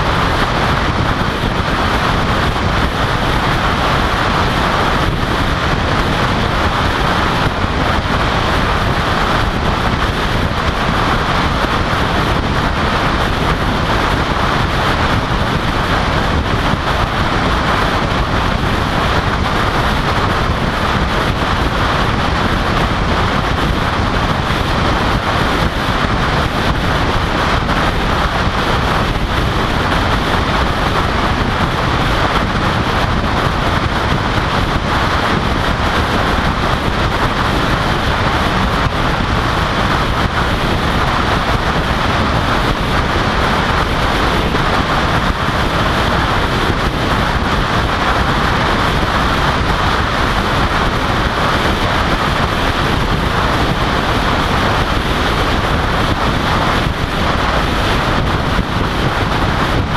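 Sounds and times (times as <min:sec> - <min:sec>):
tyre and road noise: 0:00.0 - 0:59.9
wind rushing over microphone: 0:00.0 - 0:59.9.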